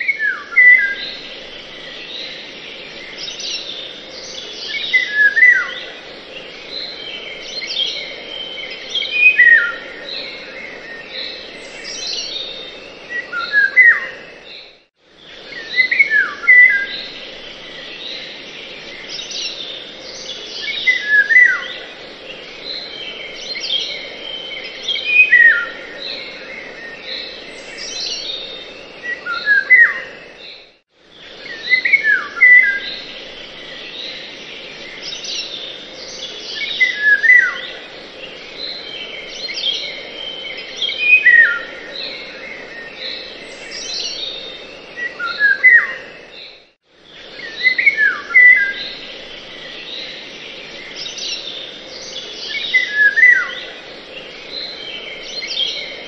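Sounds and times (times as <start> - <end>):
birds chirping: 0.0 - 56.0
steady background hiss: 0.0 - 56.0.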